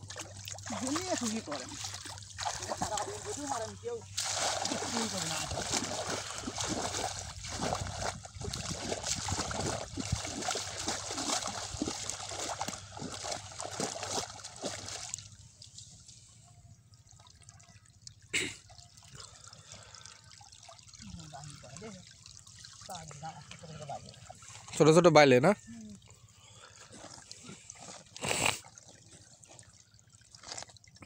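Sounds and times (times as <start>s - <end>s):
water splashing and sloshing: 0.0s - 31.0s
water trickling and dripping: 0.0s - 31.0s.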